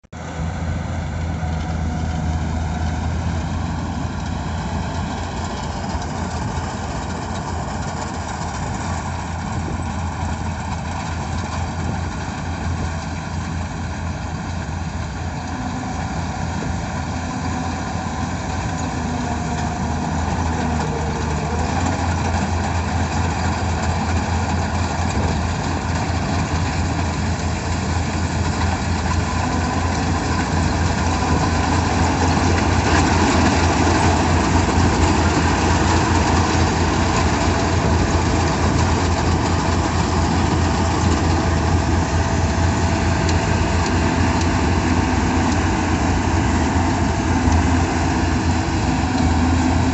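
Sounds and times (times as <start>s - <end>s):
harvester engine humming: 0.1s - 49.9s.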